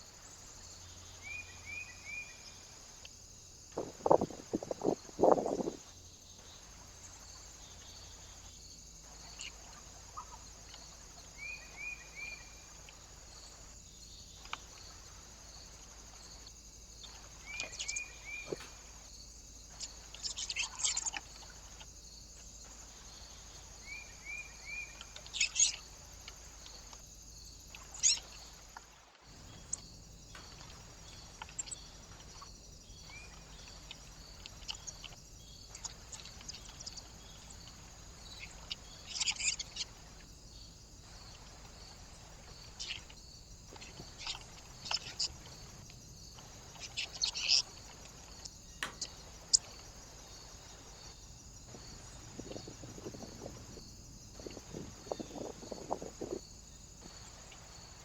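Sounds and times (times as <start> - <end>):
small birds chirping: 0.0 - 58.0
steady hiss: 0.0 - 58.0.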